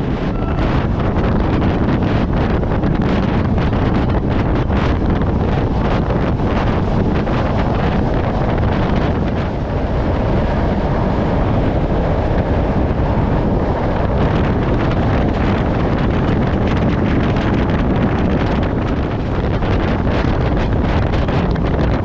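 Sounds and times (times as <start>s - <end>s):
moving train rumble: 0.0s - 22.0s
wind buffeting microphone: 0.0s - 22.0s.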